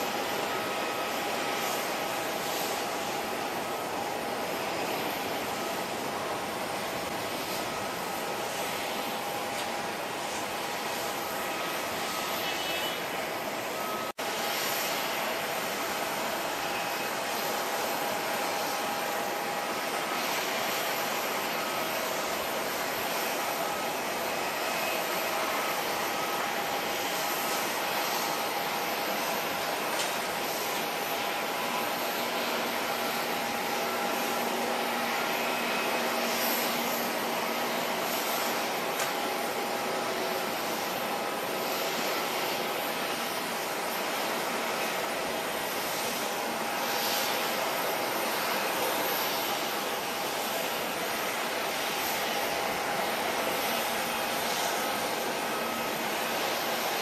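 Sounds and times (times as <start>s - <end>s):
jet airliner engine roar: 0.0s - 57.0s.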